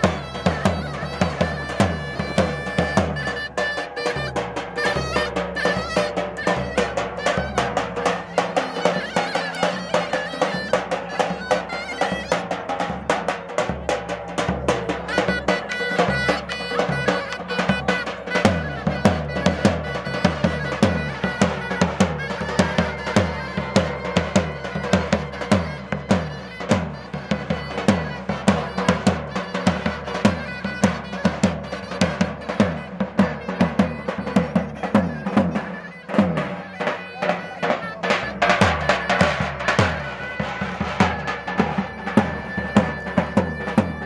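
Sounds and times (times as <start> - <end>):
large drum beaten in dance rhythm: 0.0 - 44.0
reedy wind instrument melody: 0.0 - 44.0.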